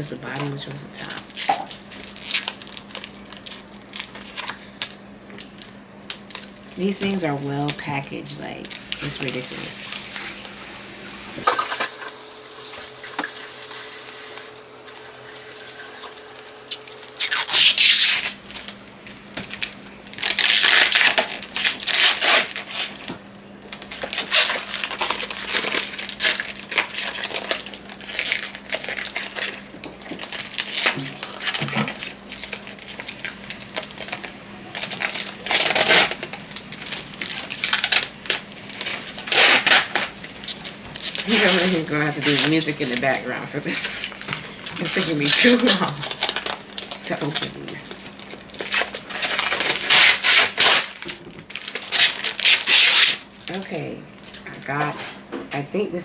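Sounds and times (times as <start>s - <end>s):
packaging crinkling and tearing: 0.0s - 55.2s.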